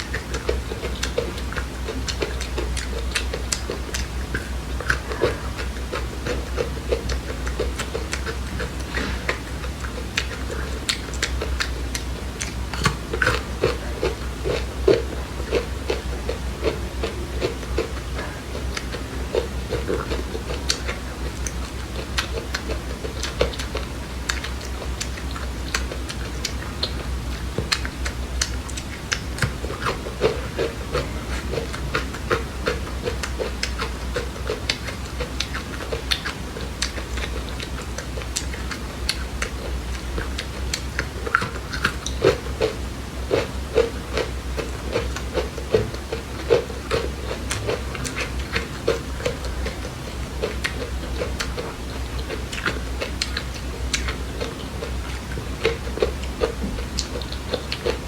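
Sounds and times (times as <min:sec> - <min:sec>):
chewing and crunching seeds: 0:00.0 - 0:58.0
steady low hum: 0:00.0 - 0:58.0.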